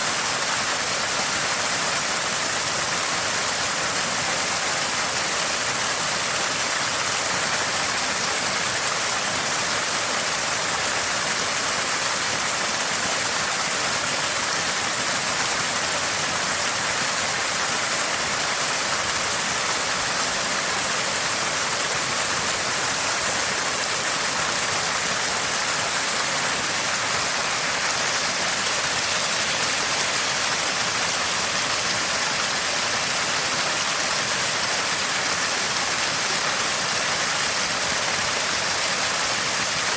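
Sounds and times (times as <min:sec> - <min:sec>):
spring water gushing and burbling: 0:00.0 - 0:39.9.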